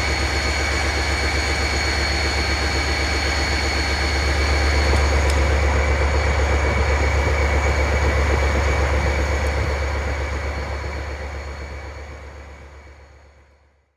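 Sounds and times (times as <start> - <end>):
diesel engines droning: 0.0 - 13.7.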